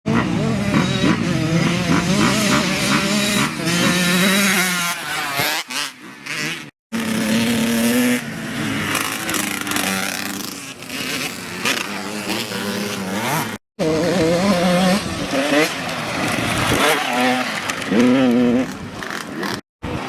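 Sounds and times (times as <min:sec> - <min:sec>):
dirt bike engines revving: 0:00.1 - 0:20.0.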